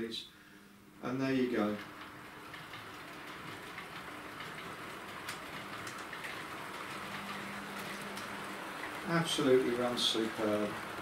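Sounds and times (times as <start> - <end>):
faint motor hum: 0.0 - 11.0
model train wheels rumbling: 1.1 - 11.0.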